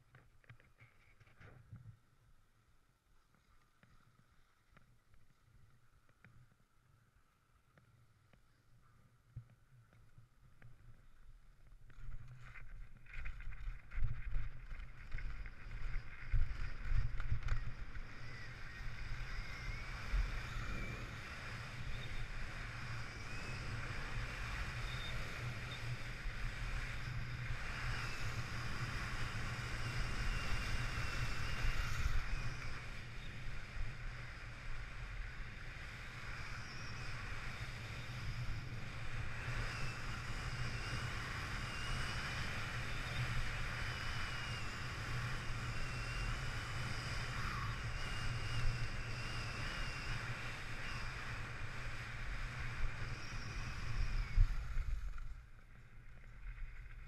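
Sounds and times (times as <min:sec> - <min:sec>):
wind rumble on microphone: 0:09.4 - 0:57.0.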